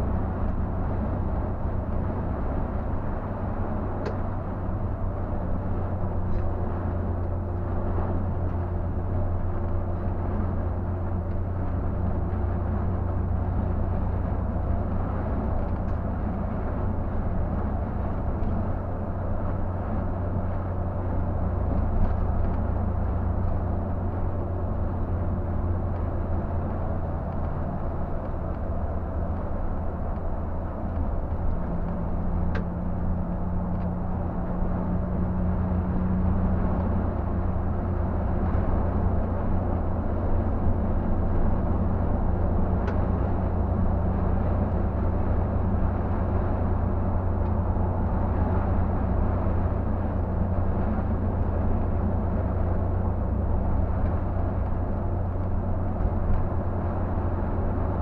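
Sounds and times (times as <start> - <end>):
bus diesel engine droning: 0.0 - 58.0
tyre and road noise: 0.0 - 58.0.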